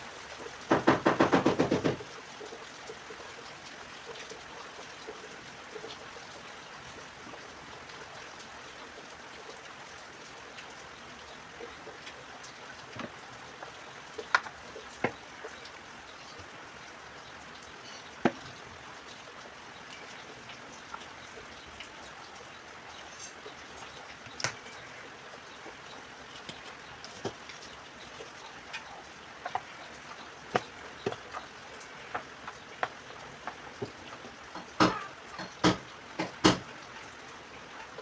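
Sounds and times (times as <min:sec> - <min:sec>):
steady rain falling: 0:00.0 - 0:38.0
sharp drips: 0:02.3 - 0:38.0.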